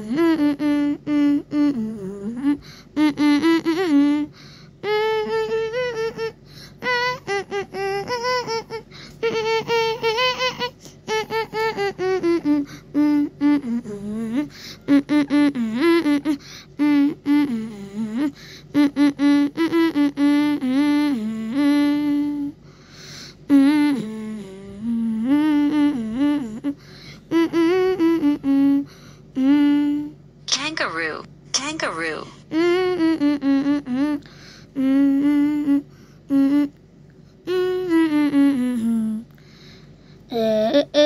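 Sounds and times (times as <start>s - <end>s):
person humming a tune: 0.0s - 30.2s, 32.0s - 36.8s, 37.4s - 39.6s, 40.2s - 41.0s.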